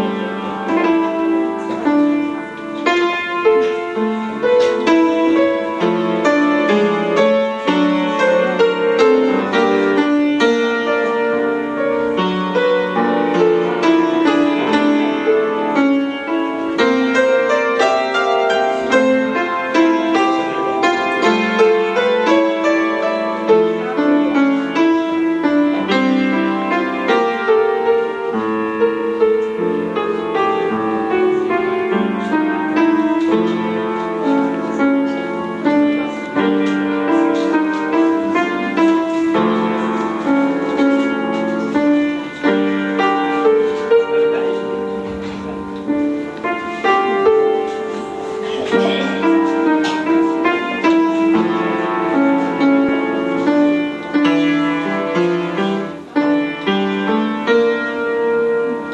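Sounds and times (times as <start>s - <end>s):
piano background music: 0.0s - 58.9s.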